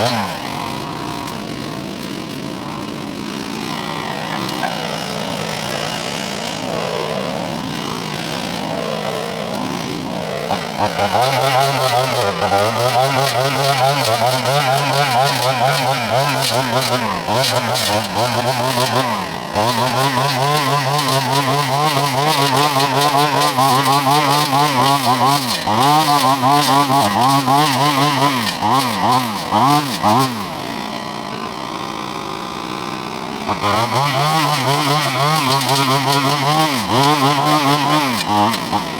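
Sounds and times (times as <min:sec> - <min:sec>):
engine running under changing load: 0:00.0 - 0:38.9.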